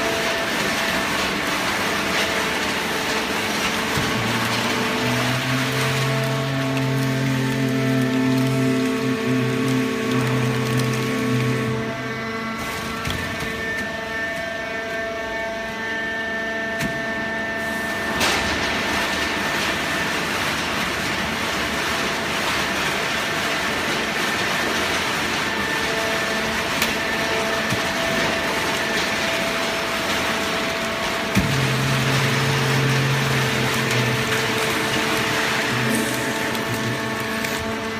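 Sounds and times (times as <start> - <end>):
paper baler humming: 0.0 - 37.9.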